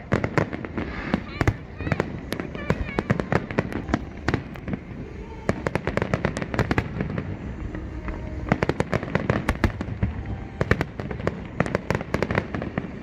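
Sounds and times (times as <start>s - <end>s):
continuous low rumble: 0.0s - 13.0s
fireworks bangs and crackling pops: 0.0s - 13.0s.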